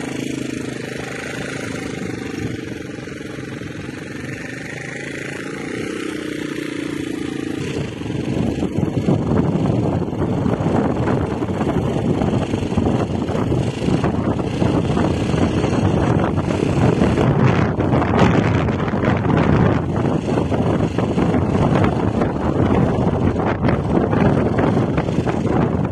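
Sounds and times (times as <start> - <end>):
rough rushing noise: 0.0 - 25.9
vehicle engine running: 0.0 - 25.9.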